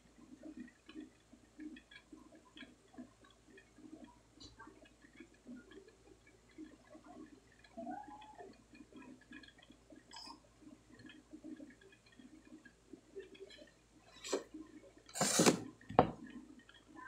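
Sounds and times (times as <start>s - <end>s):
soldering crackles and ticks: 0.0s - 17.0s.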